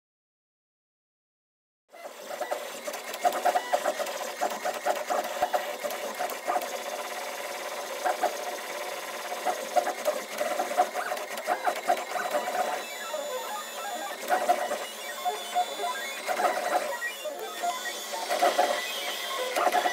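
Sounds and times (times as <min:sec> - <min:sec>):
stepper motors whirring: 0:02.0 - 0:19.9.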